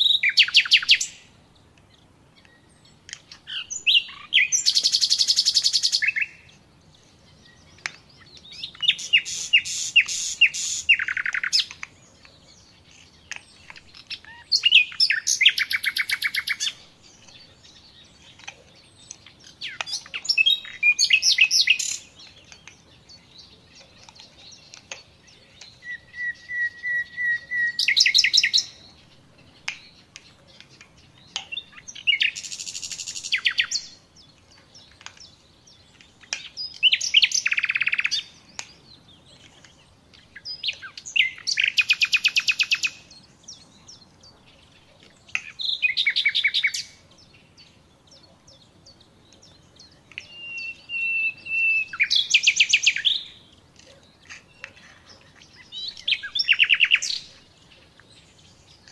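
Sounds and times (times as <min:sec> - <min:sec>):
songbird whistling and trilling: 0:00.0 - 0:01.3, 0:02.4 - 0:06.6, 0:07.3 - 0:29.0, 0:29.6 - 0:44.4, 0:45.2 - 0:53.5, 0:55.4 - 0:57.4.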